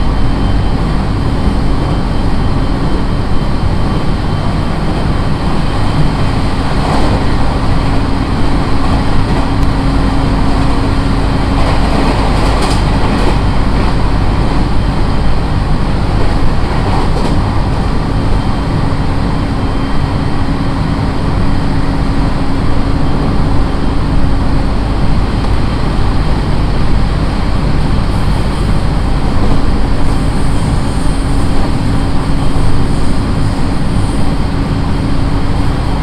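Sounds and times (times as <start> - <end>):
train rail and wheel noise: 0.0 - 36.0.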